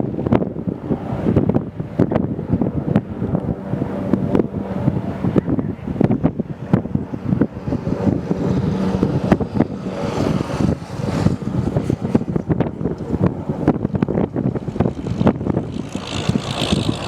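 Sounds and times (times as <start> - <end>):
helicopter rotors and turbines: 0.0 - 17.0
wind buffeting microphone: 0.0 - 17.0.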